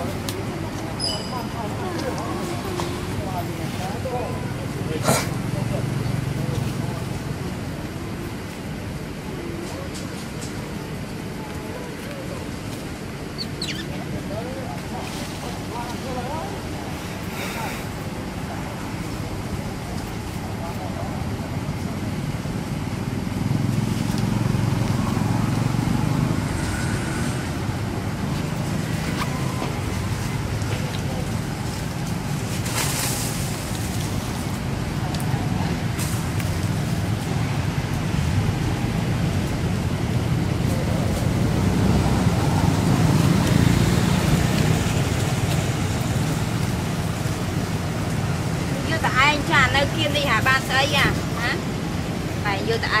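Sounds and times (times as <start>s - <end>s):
passing vehicle engine rumble: 0.0s - 53.0s.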